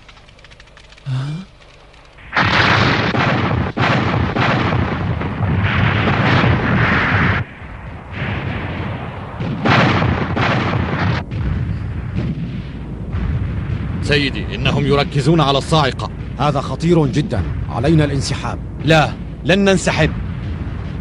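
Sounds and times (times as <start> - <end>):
explosions: 2.2 - 21.0
weapon fire: 2.2 - 21.0.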